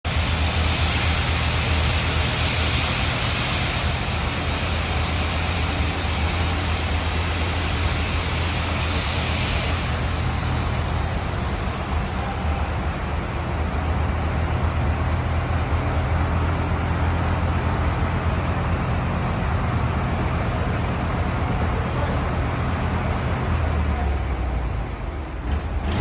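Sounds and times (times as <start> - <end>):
steady hiss: 0.1 - 25.3
low mechanical hum: 0.1 - 26.0.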